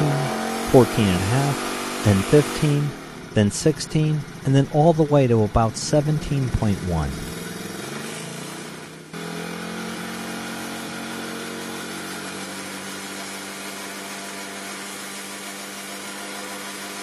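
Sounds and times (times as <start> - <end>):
small atv engine running: 0.0 - 17.0.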